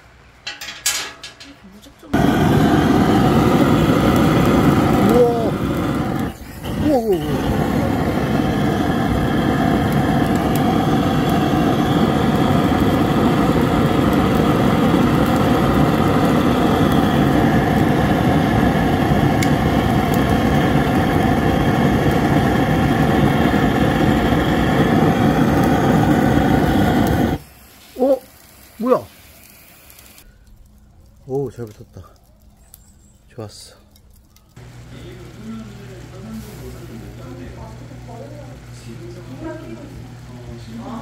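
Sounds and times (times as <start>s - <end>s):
butane torch flame roaring: 2.0s - 41.0s.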